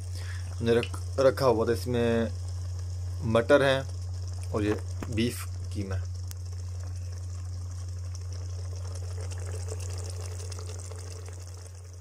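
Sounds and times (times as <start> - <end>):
constant low hum: 0.0 - 12.0
food simmering and bubbling: 0.0 - 12.0.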